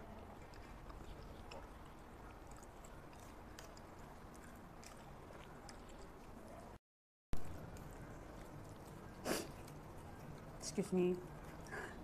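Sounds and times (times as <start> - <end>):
faint chewing: 0.0 - 6.8, 7.4 - 12.0.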